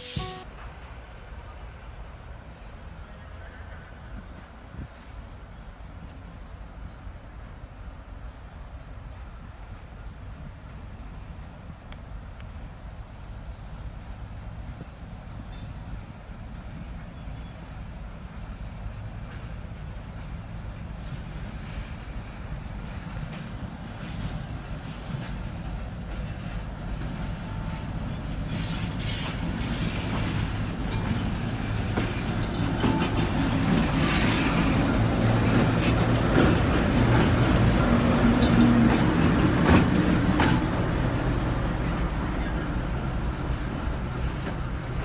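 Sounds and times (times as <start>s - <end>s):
diesel locomotive engine humming: 0.0s - 1.0s, 3.0s - 45.0s.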